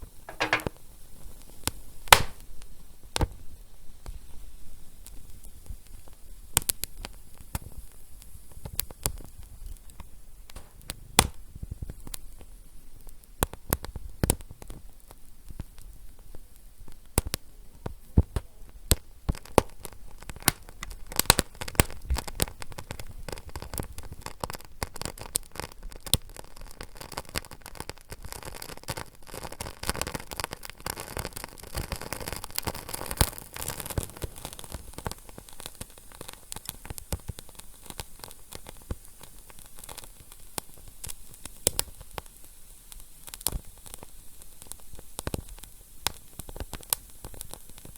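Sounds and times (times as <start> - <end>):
fire crackling: 0.0 - 47.9.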